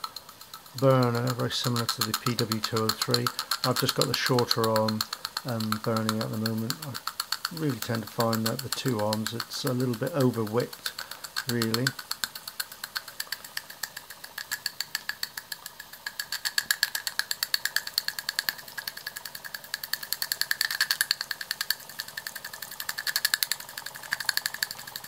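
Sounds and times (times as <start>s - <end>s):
toy steam engine exhaust beats: 0.0s - 25.0s.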